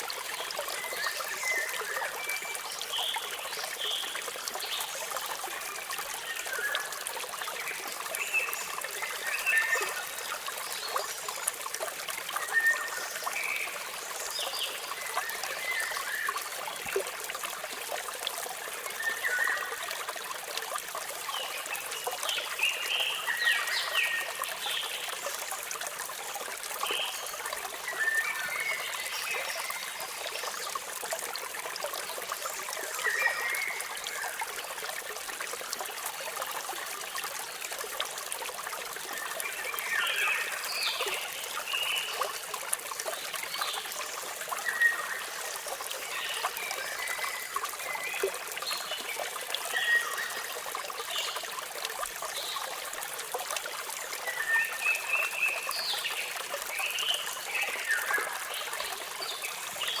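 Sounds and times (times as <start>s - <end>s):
running water rushing: 0.0s - 60.0s.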